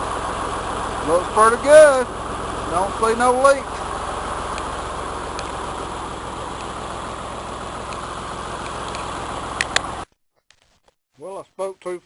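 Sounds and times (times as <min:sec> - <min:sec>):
tractor engine idling: 0:00.0 - 0:10.1.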